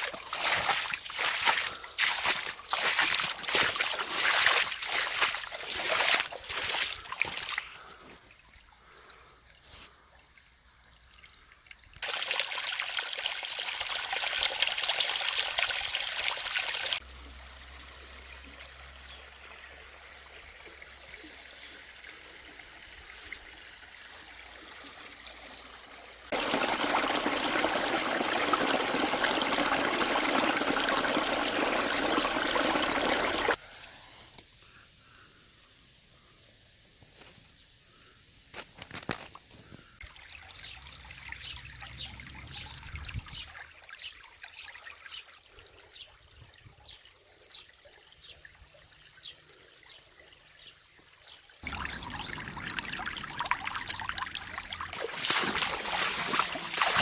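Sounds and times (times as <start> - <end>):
stream water trickling: 0.0 - 34.0, 38.8 - 57.0.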